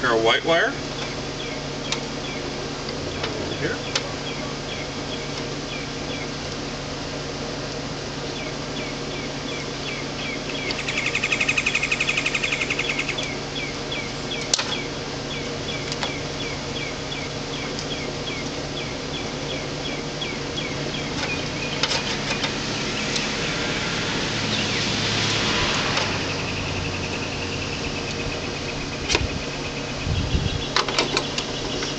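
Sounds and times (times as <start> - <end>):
steady hum: 0.0 - 31.9.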